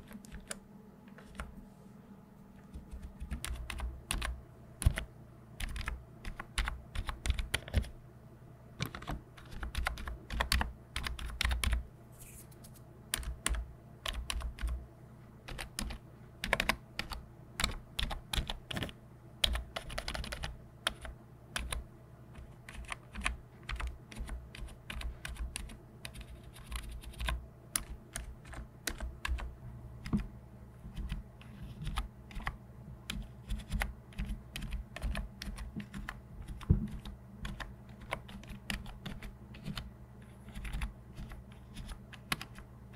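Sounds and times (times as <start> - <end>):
computer keyboard typing: 0.0 - 1.5, 2.7 - 8.0, 8.8 - 11.8, 13.1 - 14.8, 15.5 - 30.3, 30.9 - 42.7.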